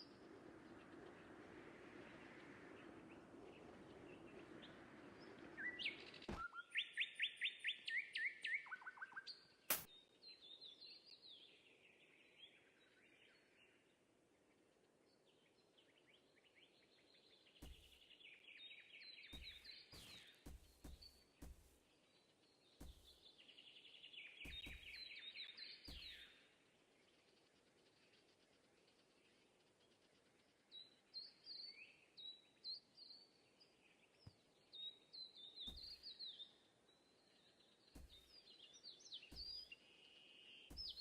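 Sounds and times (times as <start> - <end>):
bird chirping: 0.0 - 41.0.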